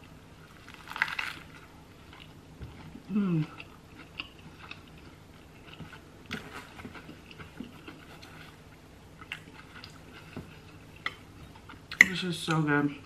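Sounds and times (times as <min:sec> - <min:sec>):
close-up chewing: 0:00.0 - 0:12.1.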